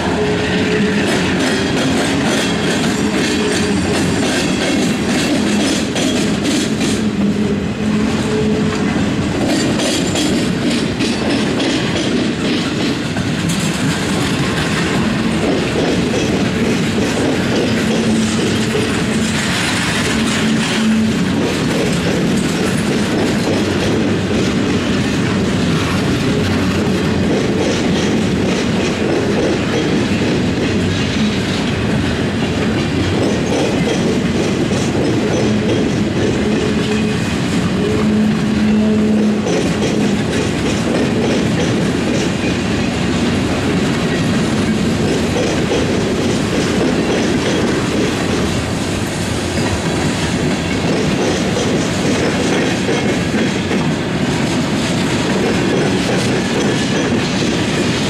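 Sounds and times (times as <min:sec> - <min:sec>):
train wheels clattering over track: 0:00.0 - 0:58.0.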